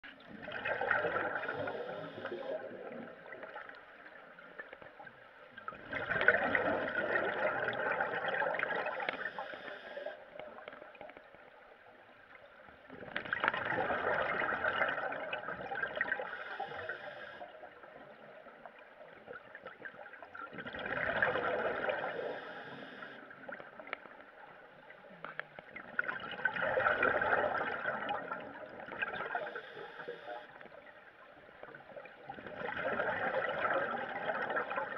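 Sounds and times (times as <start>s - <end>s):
underwater exhaust bubbles: 0.0s - 34.9s.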